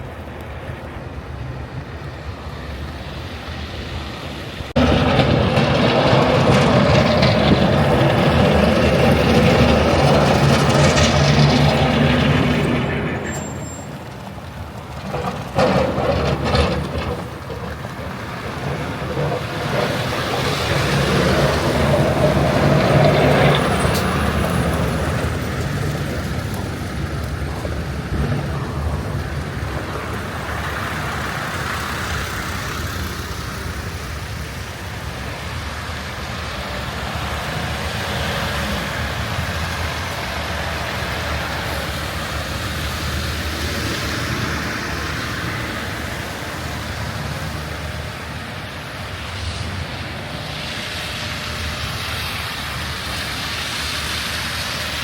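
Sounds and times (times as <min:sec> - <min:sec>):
heavy vehicles passing: 0:00.0 - 0:55.0.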